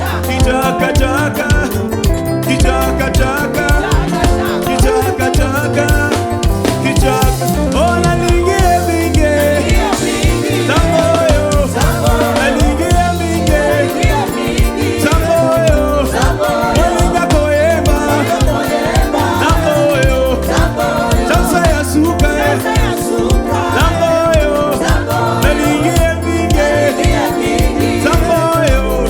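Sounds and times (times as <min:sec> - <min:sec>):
band playing: 0:00.0 - 0:29.0
person singing: 0:00.0 - 0:29.0.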